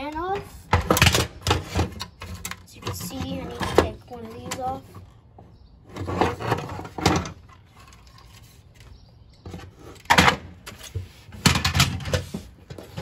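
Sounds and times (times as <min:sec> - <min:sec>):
plastic parts clattering on wood: 0:00.1 - 0:05.1, 0:05.9 - 0:13.0.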